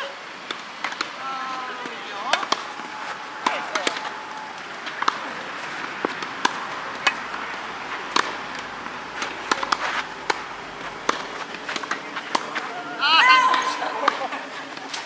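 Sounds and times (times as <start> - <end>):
tennis balls struck by rackets: 0.4 - 15.0.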